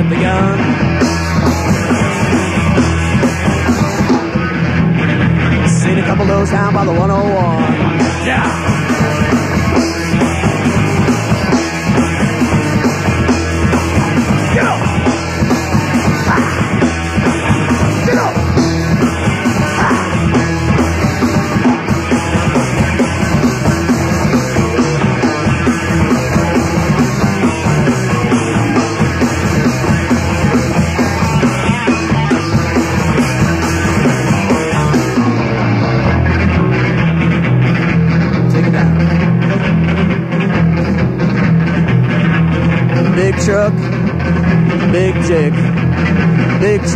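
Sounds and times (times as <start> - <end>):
punk rock band playing: 0.0 - 46.9.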